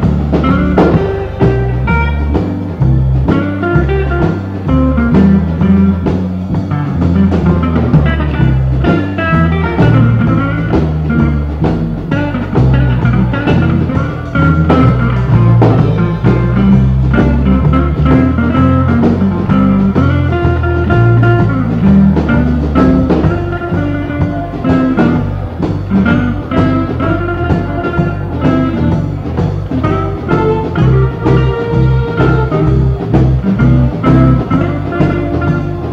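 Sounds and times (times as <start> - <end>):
bass line: 0.0 - 35.9
electric guitar: 0.0 - 35.9
steady drum beat: 0.0 - 35.9.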